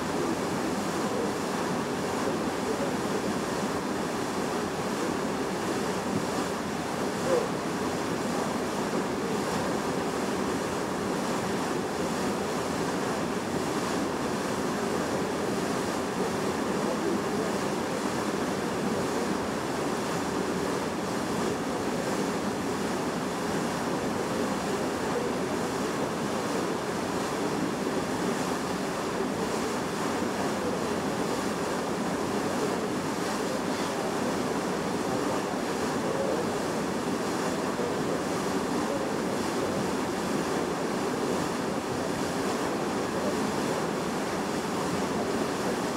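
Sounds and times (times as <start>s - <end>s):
sea water rushing along hull: 0.0s - 45.9s.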